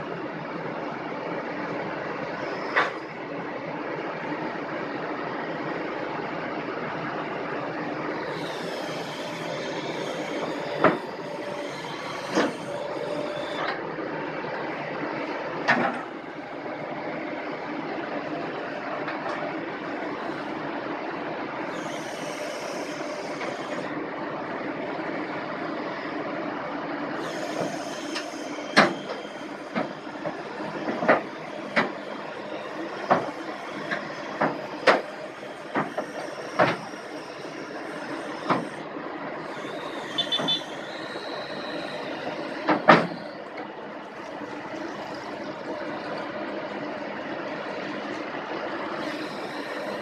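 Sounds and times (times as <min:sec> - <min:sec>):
excavator running: 0:00.0 - 0:50.0.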